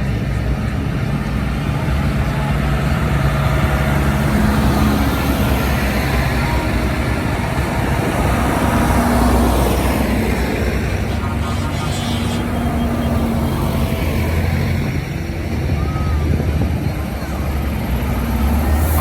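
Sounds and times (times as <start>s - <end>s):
tractor diesel engines passing: 0.0s - 19.0s.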